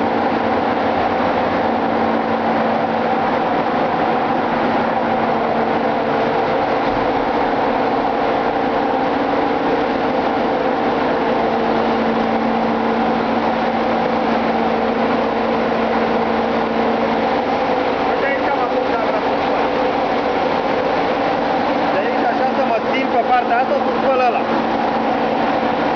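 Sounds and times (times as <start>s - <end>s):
engine room machinery humming: 0.0s - 25.9s.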